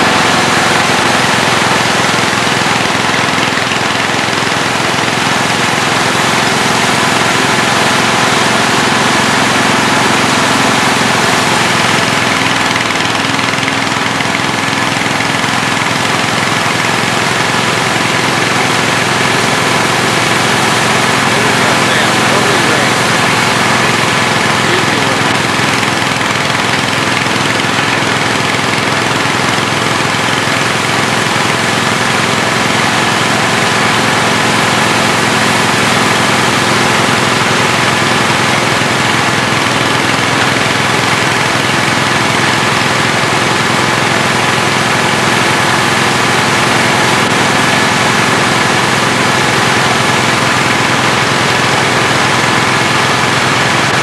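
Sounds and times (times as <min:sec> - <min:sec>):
snowblower engine running: 0:00.0 - 0:54.0.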